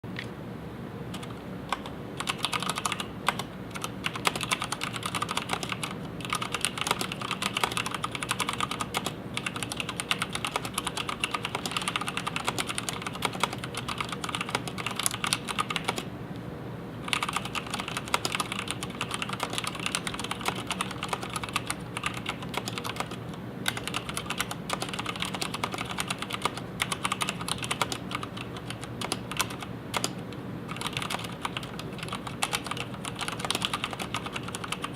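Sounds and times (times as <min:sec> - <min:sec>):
mechanical keyboard typing: 0:01.1 - 0:16.1, 0:17.0 - 0:34.9.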